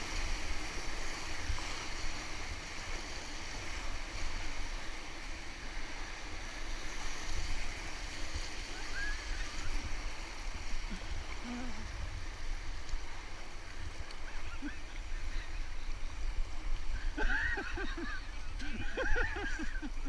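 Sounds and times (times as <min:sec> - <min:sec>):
whitewater river rushing: 0:00.0 - 0:20.0.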